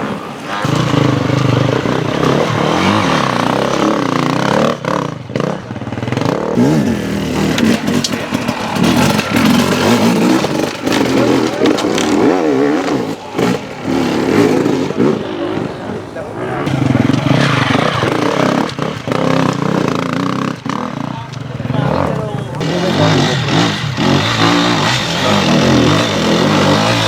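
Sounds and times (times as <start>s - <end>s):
motorcycle engines revving: 0.0s - 27.0s
clatter: 0.6s - 15.6s, 16.7s - 27.0s.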